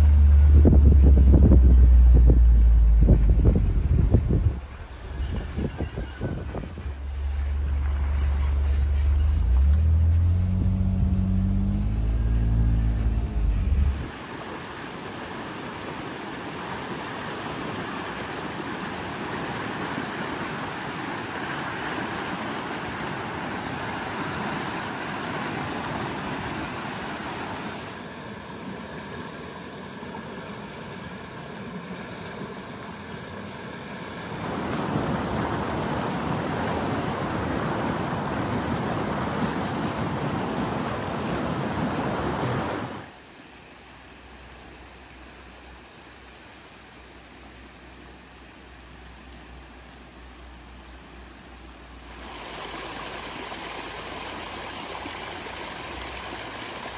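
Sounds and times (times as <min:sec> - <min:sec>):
fast flood water rushing: 0:00.0 - 0:50.9, 0:51.5 - 0:56.9.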